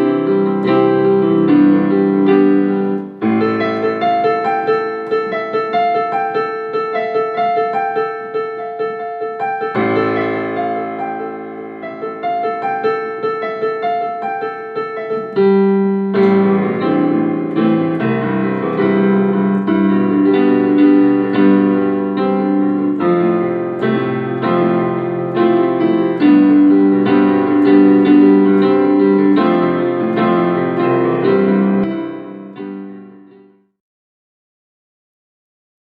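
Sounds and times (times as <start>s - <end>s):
piano music: 0.0s - 33.7s.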